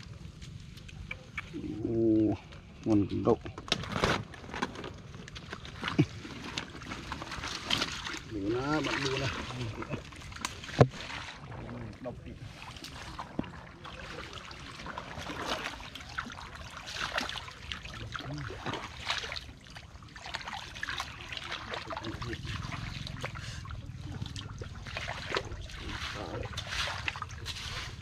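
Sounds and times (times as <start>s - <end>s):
footsteps splashing through mud: 3.6s - 11.8s, 12.4s - 28.0s.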